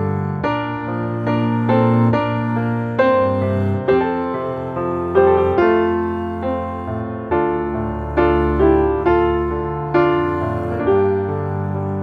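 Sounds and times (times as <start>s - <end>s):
slow piano piece: 0.0s - 12.0s.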